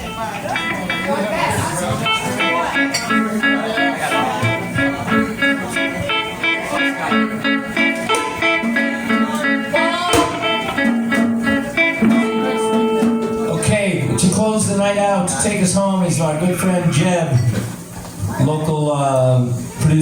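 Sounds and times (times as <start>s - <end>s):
plucked guitar music: 0.0s - 17.5s.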